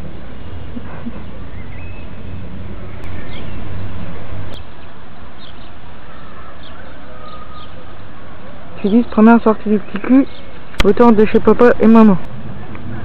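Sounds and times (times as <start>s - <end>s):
small birds chirping: 0.0s - 3.9s, 4.5s - 12.1s.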